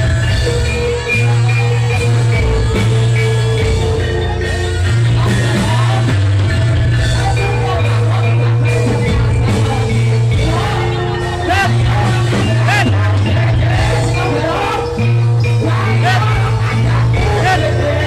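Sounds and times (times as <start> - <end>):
loud music with deep bass: 0.0 - 18.0.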